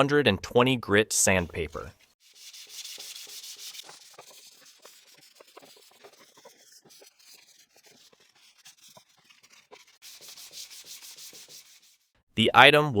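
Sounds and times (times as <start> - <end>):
sandpaper scratching wood: 1.5 - 12.1.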